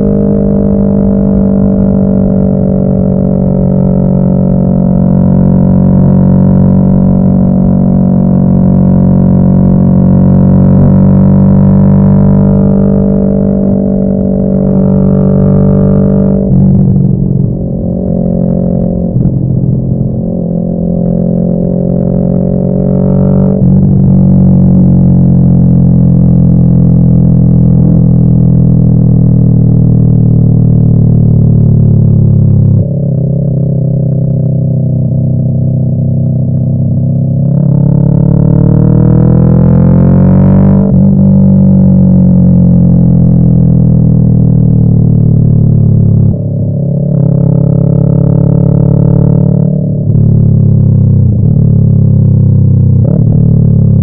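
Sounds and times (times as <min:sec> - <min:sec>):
motorcycle engine drone: 0:00.0 - 0:54.0.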